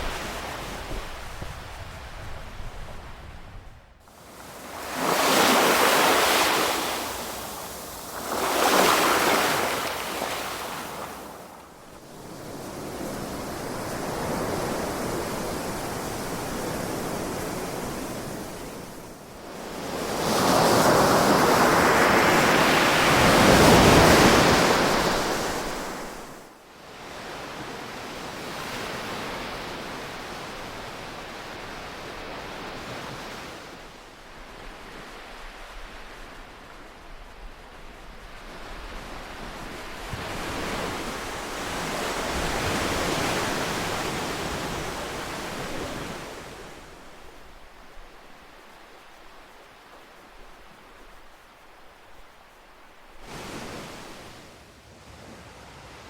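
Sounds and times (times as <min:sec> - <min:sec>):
ocean waves breaking on shore: 0:00.0 - 0:03.2, 0:04.0 - 0:56.0.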